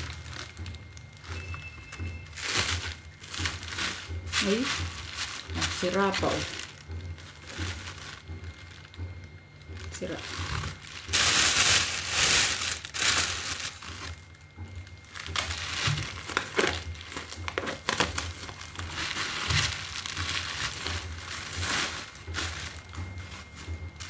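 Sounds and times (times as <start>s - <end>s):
plastic wrap crinkling: 0.0s - 24.0s.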